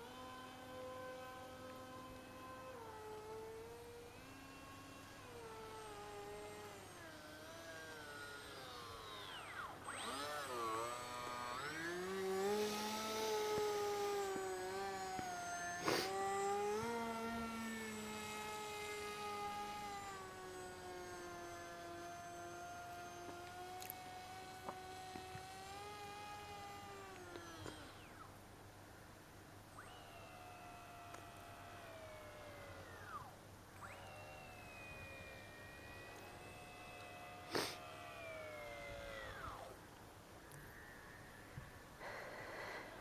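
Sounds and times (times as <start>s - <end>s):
electric motor and propeller whining: 0.0s - 43.0s.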